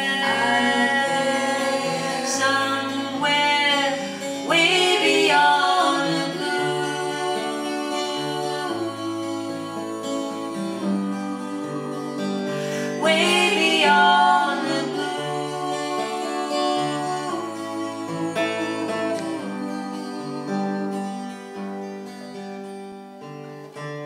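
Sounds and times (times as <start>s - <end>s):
woman singing: 0.0s - 22.0s
acoustic guitar played slowly: 0.0s - 24.0s.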